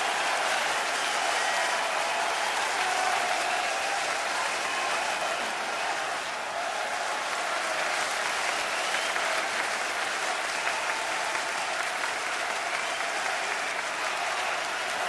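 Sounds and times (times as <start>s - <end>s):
crowd cheering and applauding: 0.0s - 15.0s.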